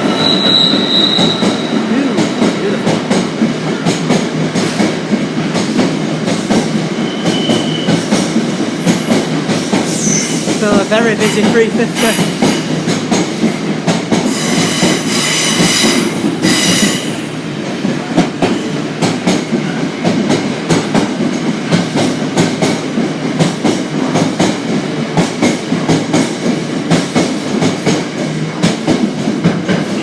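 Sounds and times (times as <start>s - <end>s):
high train whine: 0.0s - 30.0s
train wheels clicking over rail joints: 0.2s - 30.0s.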